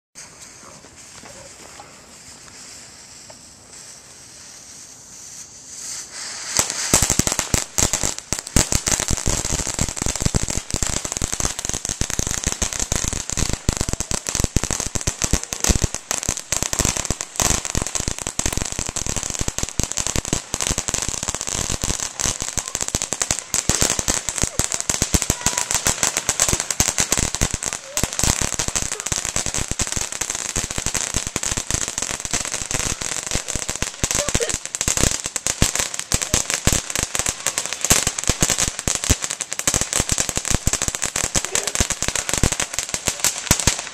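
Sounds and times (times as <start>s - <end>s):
firework fountain crackling: 0.2s - 43.9s.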